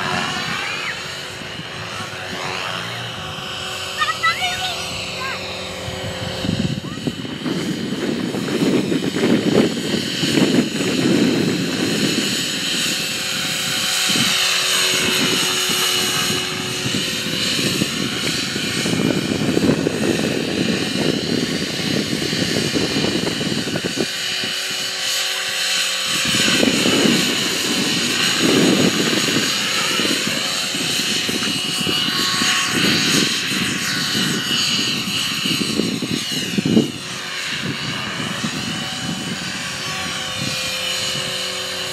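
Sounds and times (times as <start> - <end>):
rc helicopter rotor and motor whine: 0.0 - 41.9.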